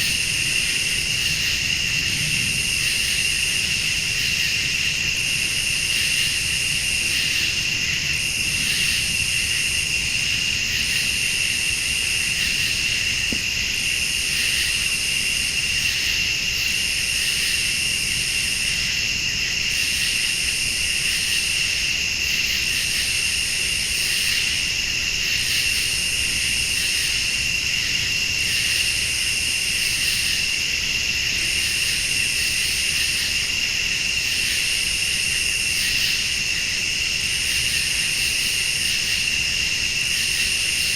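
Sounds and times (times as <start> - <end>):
crickets trilling: 0.0 - 40.9
pulsing high insect call: 0.0 - 40.9.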